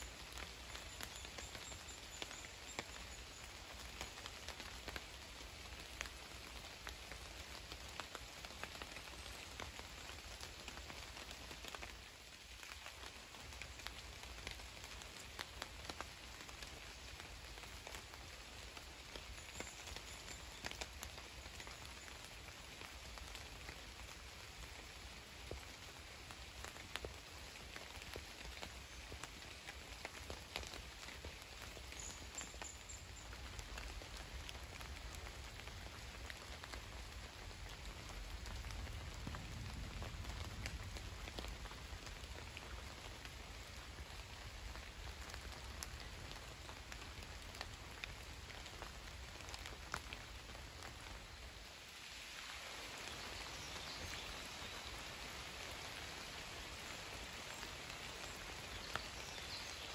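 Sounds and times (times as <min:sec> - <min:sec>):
light rain pattering: 0:00.0 - 0:59.9.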